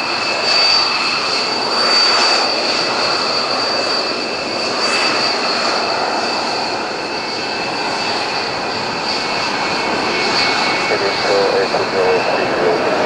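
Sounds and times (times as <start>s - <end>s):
high jet whine: 0.0s - 13.0s
jet engine noise rushing: 0.0s - 13.0s.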